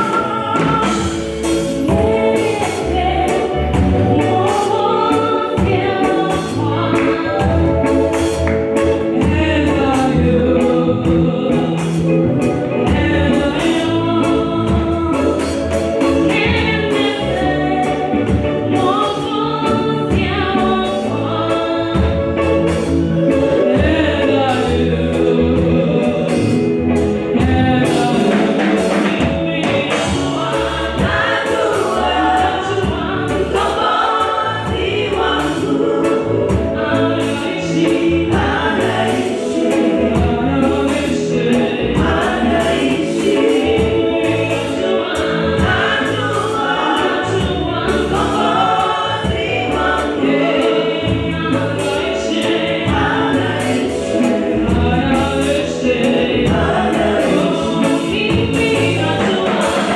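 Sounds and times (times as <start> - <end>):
amplified instrumental backing: 0.0 - 59.9
gospel choir singing: 0.0 - 59.9
woman soloist singing: 0.0 - 59.9.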